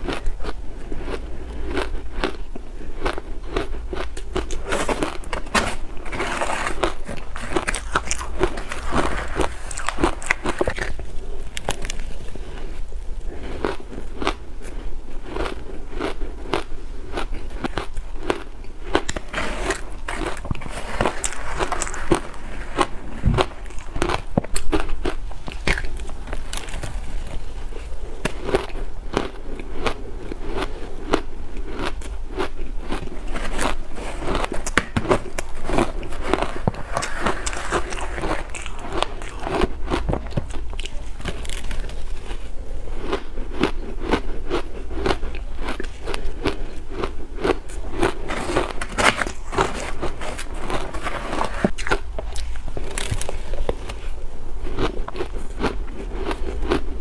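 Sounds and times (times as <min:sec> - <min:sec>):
crunching shaved ice: 0:00.0 - 0:12.7, 0:13.5 - 0:57.0.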